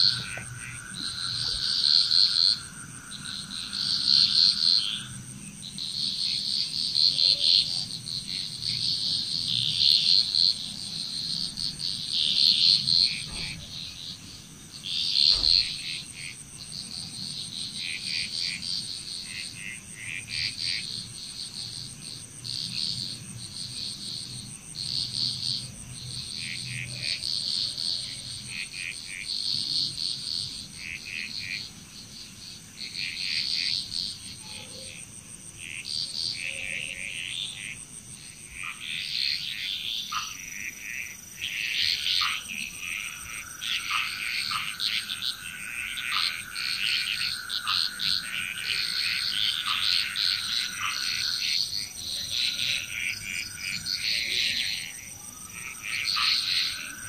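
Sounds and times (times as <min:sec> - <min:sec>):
frogs calling in pulsed bursts: 0:00.0 - 0:57.0
high-pitched insect trill: 0:00.0 - 0:57.0.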